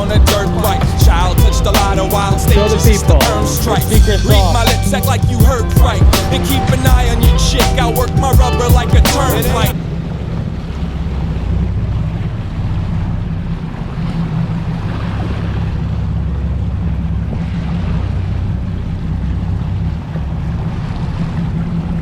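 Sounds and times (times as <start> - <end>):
boat engine droning: 0.0 - 22.0
water rushing: 0.0 - 22.0
wind buffeting microphone: 0.0 - 22.0.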